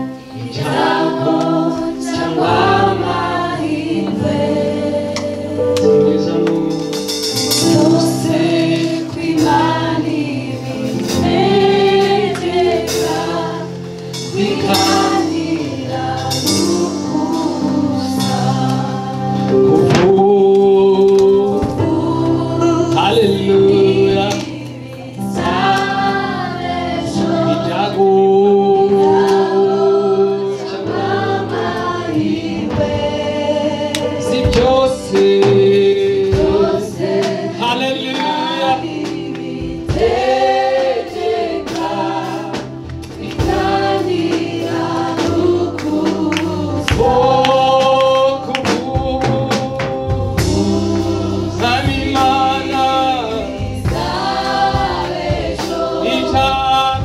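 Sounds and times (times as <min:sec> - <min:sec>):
group singing worship song: 0:00.0 - 0:57.0
sustained keyboard chords: 0:00.0 - 0:57.0.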